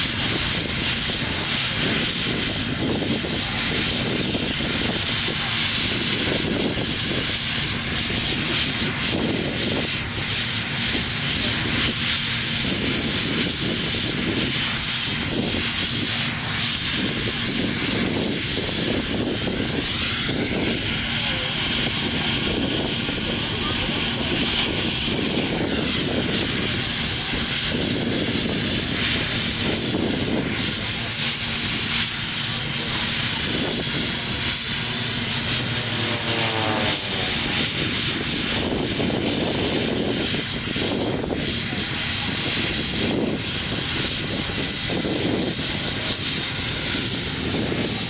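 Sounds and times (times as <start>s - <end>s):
helicopter engine and rotor: 0.0s - 48.0s
high-pitched whine: 0.0s - 48.0s.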